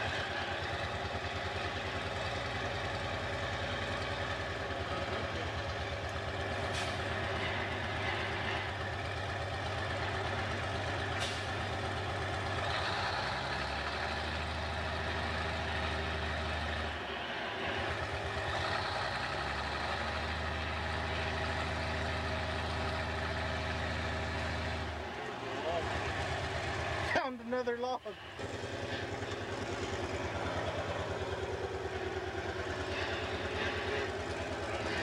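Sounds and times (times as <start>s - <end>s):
diesel engine working hard: 0.0s - 35.0s.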